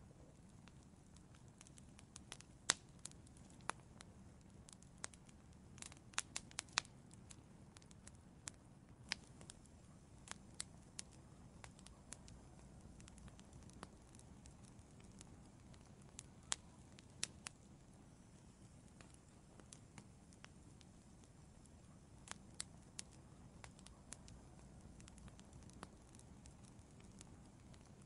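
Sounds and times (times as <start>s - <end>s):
faint low rumble of flames: 0.0s - 28.0s
wood fire crackling and popping: 0.0s - 28.0s.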